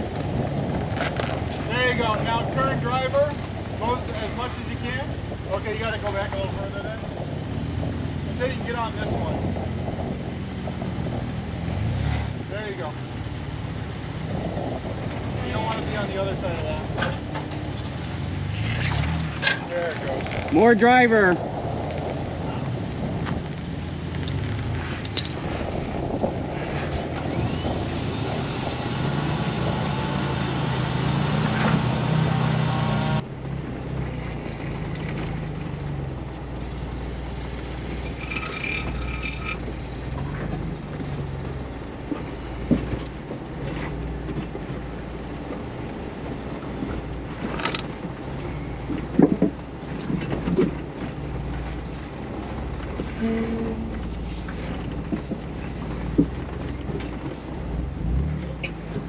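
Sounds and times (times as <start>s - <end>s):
engine running under load: 0.0s - 59.0s.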